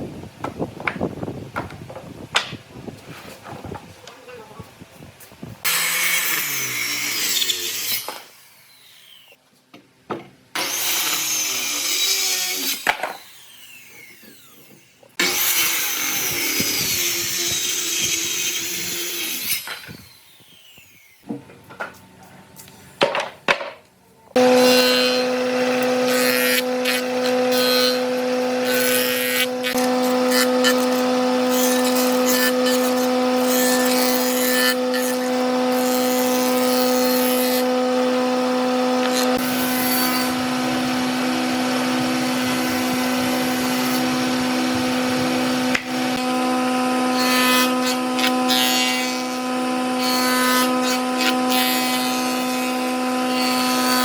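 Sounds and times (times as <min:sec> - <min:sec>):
power tool motor humming: 0:05.6 - 0:09.4, 0:10.6 - 0:21.3, 0:24.4 - 0:54.0
power tool working wood: 0:05.6 - 0:09.4, 0:10.6 - 0:21.4, 0:24.4 - 0:54.0.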